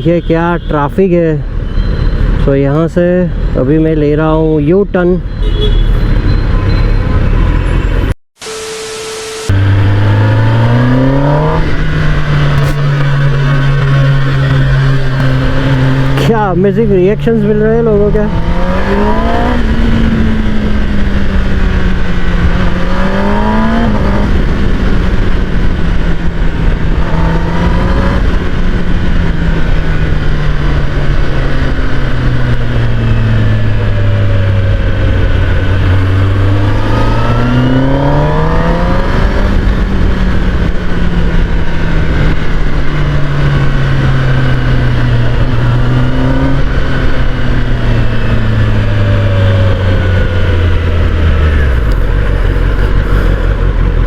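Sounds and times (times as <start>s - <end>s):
road and wind noise: 0.0s - 54.0s
motorcycle engine revving: 5.5s - 54.0s.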